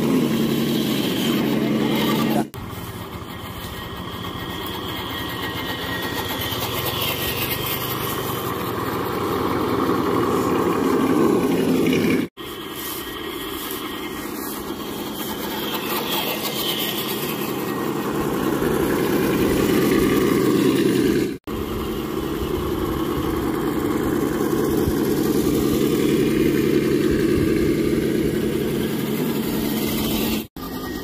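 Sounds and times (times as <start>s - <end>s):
rc car motor running: 0.0s - 31.0s.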